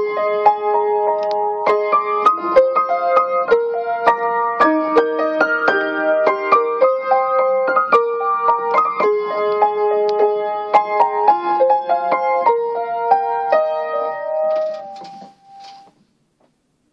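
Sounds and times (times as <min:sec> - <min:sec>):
solo piano melody: 0:00.0 - 0:15.9.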